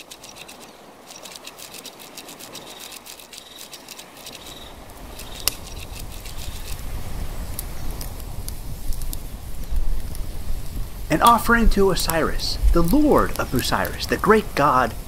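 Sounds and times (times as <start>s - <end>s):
crackling clicks: 0.0s - 15.0s.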